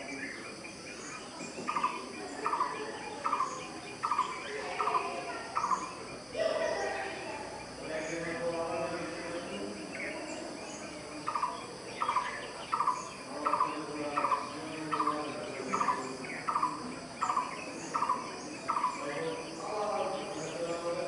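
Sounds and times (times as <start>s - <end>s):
insects: 0.0s - 21.0s
other birds: 0.0s - 21.0s.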